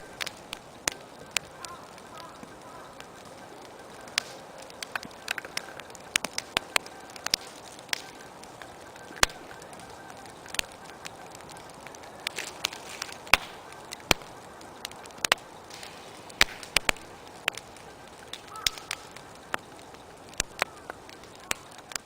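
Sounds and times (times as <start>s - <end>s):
bonfire crackling and popping: 0.0s - 22.0s
hiss of flame: 0.0s - 22.0s.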